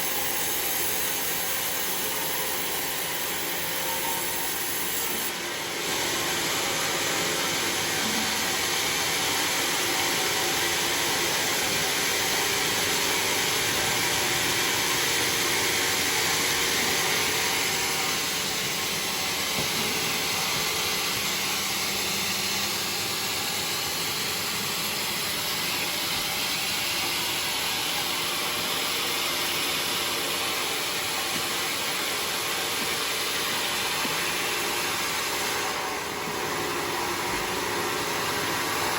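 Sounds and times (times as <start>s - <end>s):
sawmill saw cutting a log: 0.0s - 38.9s.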